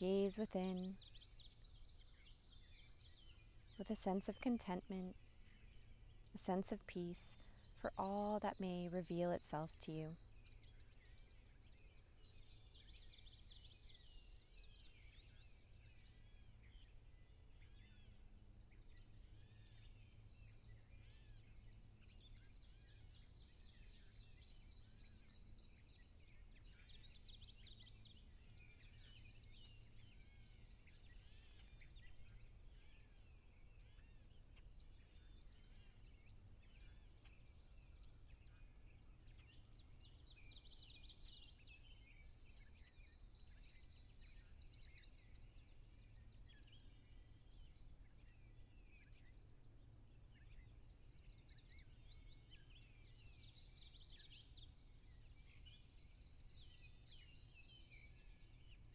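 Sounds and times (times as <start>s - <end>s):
birds chirping and trilling: 0.0s - 58.9s.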